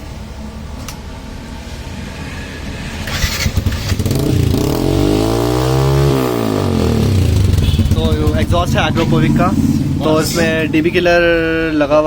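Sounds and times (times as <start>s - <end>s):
motorcycle engine idling and revving: 0.0s - 11.6s.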